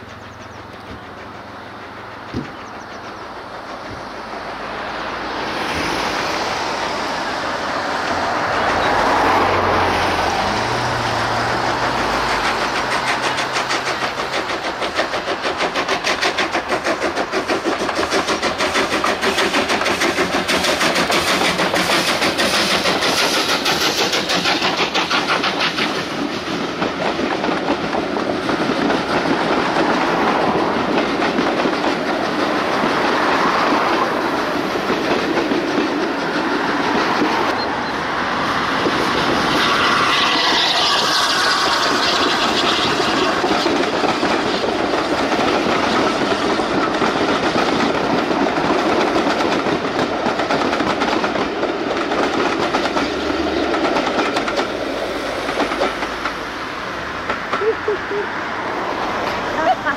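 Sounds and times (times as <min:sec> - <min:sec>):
clickety-clack of wheels: 0:00.0 - 0:59.9
train running on rails: 0:00.0 - 0:59.9.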